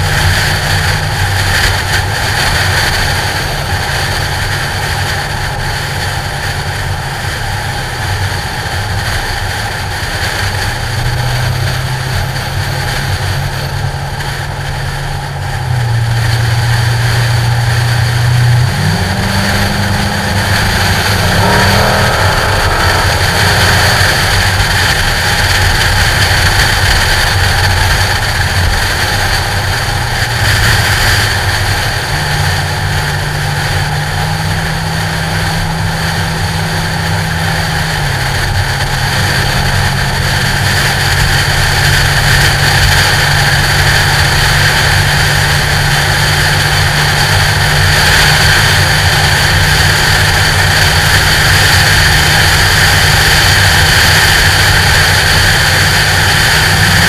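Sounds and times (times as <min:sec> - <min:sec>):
car engine hum: 0:00.0 - 0:57.0
wind noise on camera: 0:00.0 - 0:57.0.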